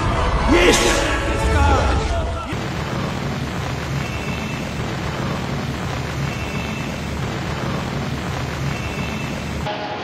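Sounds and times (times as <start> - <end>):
heavy rain: 0.0 - 9.7.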